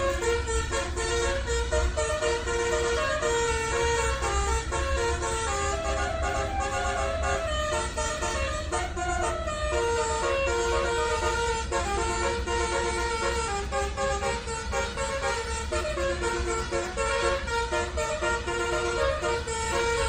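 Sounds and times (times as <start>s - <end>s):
electric trumpet horns playing tune: 0.0s - 20.0s.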